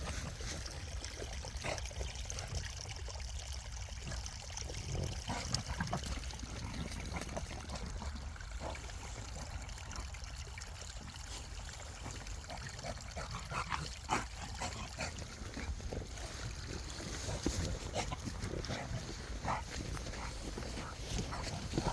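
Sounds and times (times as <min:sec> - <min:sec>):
water trickling and splashing: 0:00.0 - 0:21.9.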